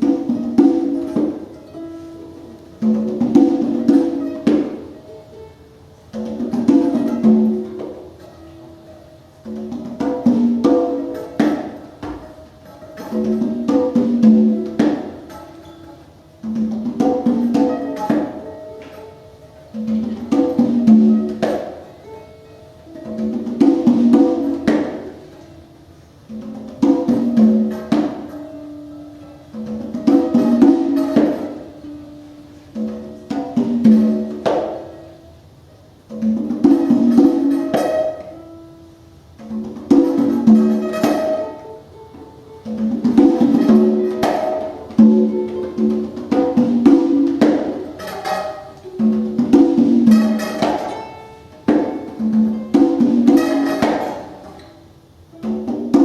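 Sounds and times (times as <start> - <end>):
congas: 0.0 - 56.0
plucked strings: 0.0 - 56.0.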